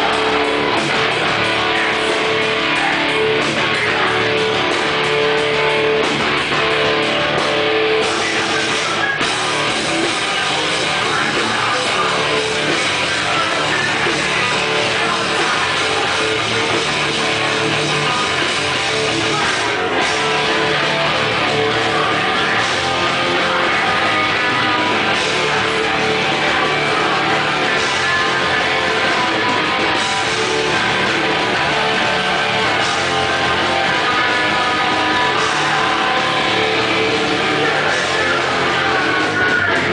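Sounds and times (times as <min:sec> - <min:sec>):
electric guitar: 0:00.0 - 0:39.9
hardcore band playing live: 0:00.0 - 0:39.9.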